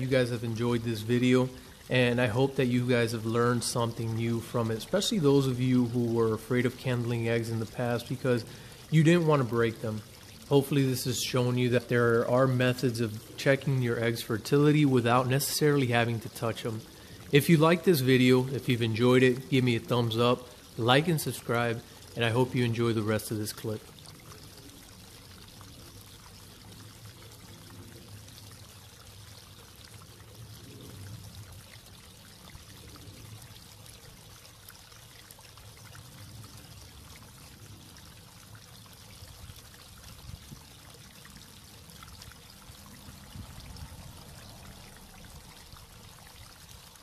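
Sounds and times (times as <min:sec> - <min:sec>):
water trickling over rocks: 0:00.0 - 0:47.0.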